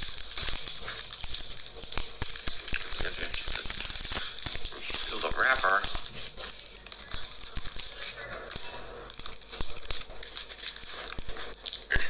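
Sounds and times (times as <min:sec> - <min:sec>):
candy wrapper crinkling: 0:00.0 - 0:12.0.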